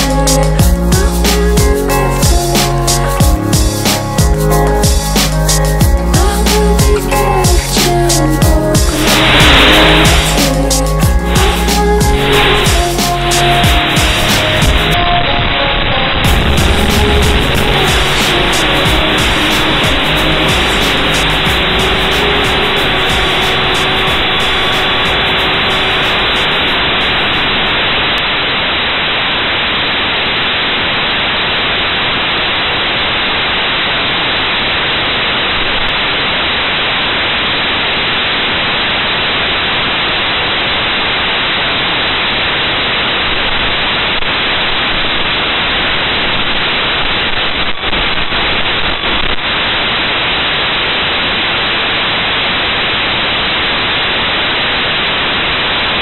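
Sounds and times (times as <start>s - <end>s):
loud white-noise static hiss: 0.0s - 56.0s.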